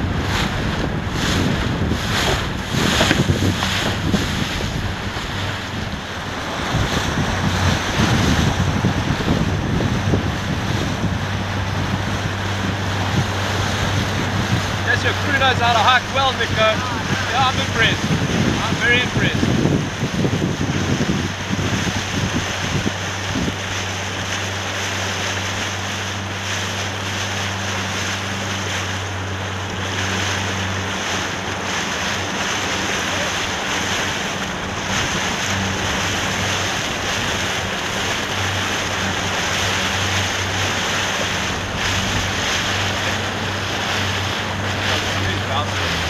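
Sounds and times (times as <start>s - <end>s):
low engine hum: 0.0s - 46.0s
water rushing and splashing: 0.0s - 46.0s
wind buffeting microphone: 0.0s - 46.0s.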